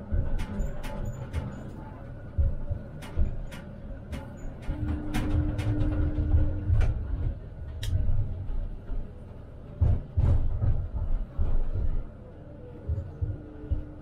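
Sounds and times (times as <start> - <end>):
tram rumbling on track: 0.0 - 14.0.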